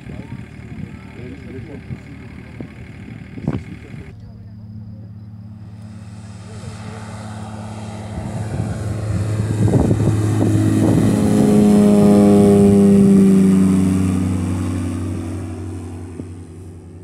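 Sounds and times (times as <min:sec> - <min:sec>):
light aircraft flying overhead: 0:00.0 - 0:17.0.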